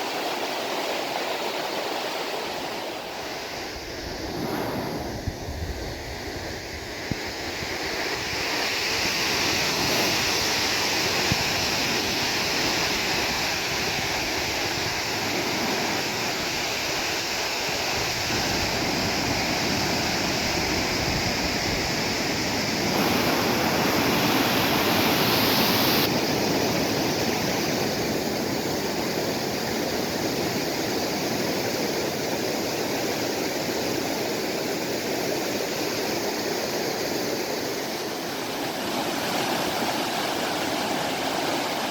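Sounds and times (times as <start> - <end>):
stream rushing over rocks: 0.0 - 5.2, 6.0 - 41.9.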